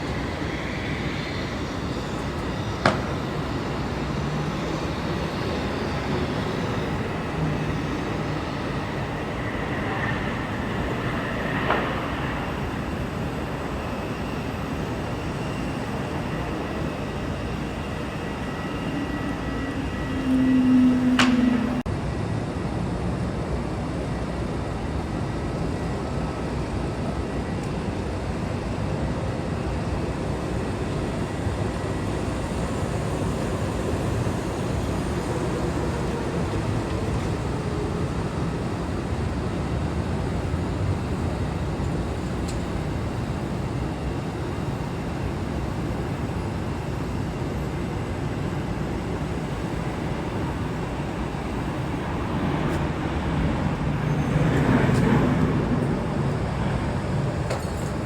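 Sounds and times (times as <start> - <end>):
jet aircraft engine noise: 0.0 - 58.0.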